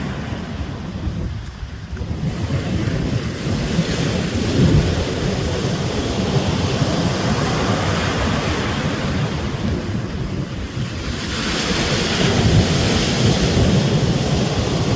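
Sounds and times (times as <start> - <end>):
ocean waves breaking: 0.0 - 14.9.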